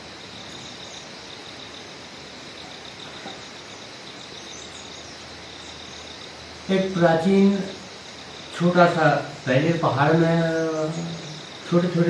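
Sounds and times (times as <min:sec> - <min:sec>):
faint background hiss: 0:00.0 - 0:12.0
pulsing insect trill: 0:00.0 - 0:12.0.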